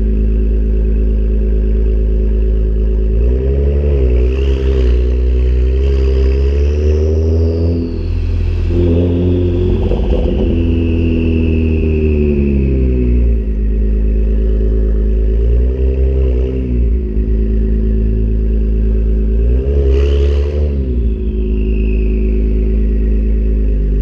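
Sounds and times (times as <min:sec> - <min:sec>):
car engine idling: 0:00.0 - 0:24.0
engine throttle blips: 0:04.0 - 0:24.0
high whine: 0:04.1 - 0:24.0.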